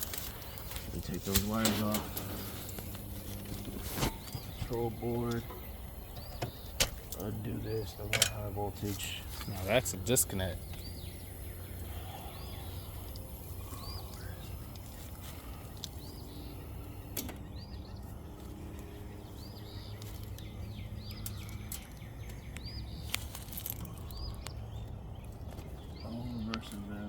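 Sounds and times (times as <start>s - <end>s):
bird chirping: 0.0s - 27.0s
steady low hum: 0.0s - 27.0s.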